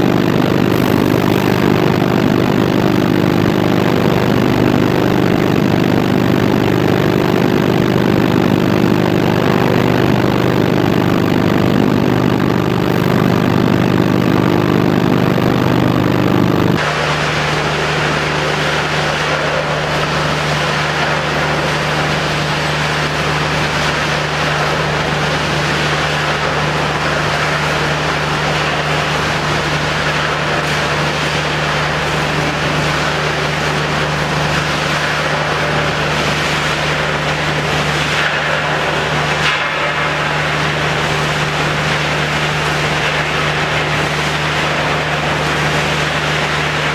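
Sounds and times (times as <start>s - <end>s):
industrial machinery hum: 0.0s - 46.9s.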